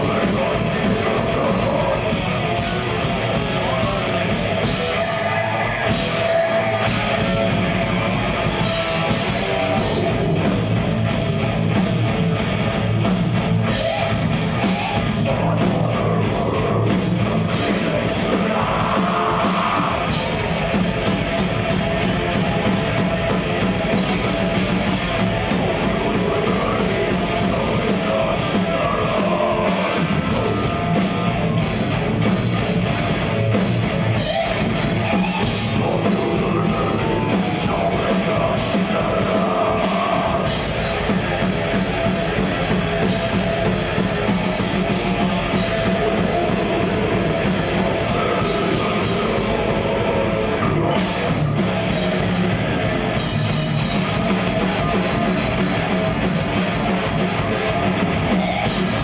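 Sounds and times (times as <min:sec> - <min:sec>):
distorted electric guitars: 0:00.0 - 0:59.0
drum kit: 0:00.0 - 0:59.0.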